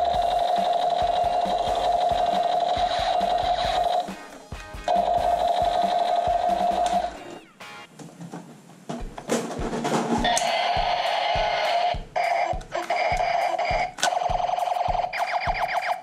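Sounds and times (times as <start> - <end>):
thudding beat: 0.0 - 7.9, 8.9 - 16.0.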